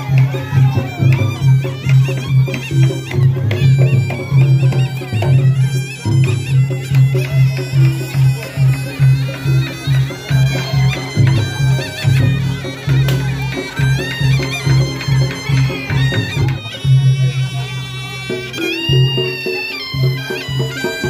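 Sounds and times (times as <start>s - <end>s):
low drum and gong beats: 0.0s - 21.0s
shawm playing ornamented melody: 0.0s - 21.0s.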